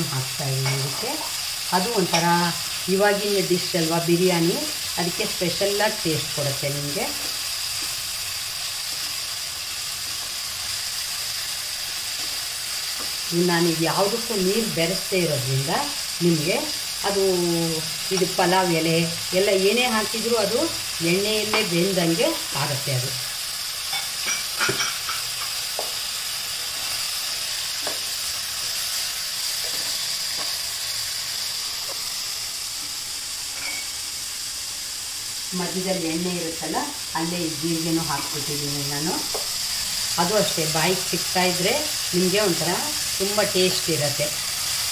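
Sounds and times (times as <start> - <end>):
vegetables frying in oil: 0.0 - 44.9.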